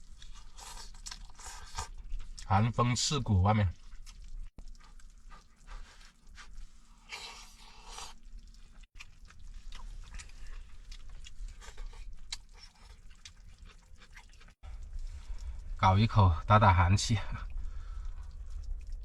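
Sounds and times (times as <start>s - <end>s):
chewing with crunches: 0.0s - 15.8s, 17.4s - 19.0s.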